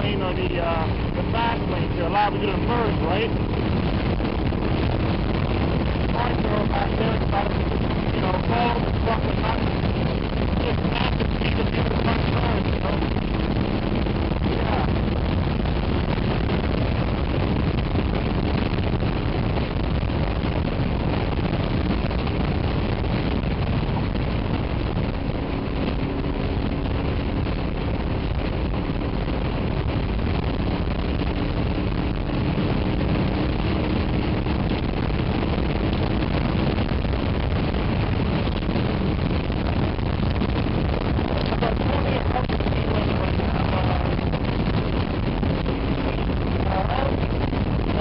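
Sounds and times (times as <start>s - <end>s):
motorcycle engine cruising: 0.0s - 39.4s
wind rush on microphone: 0.0s - 48.0s.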